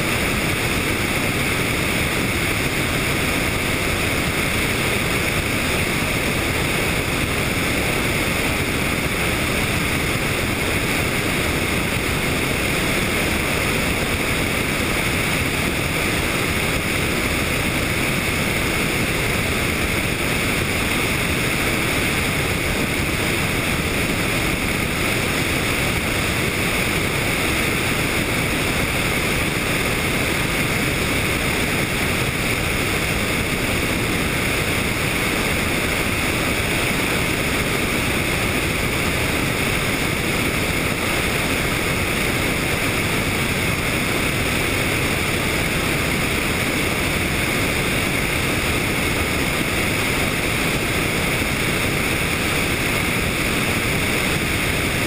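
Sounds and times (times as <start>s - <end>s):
helicopter in flight: 0.0s - 55.0s
wind noise on microphone: 0.0s - 55.0s.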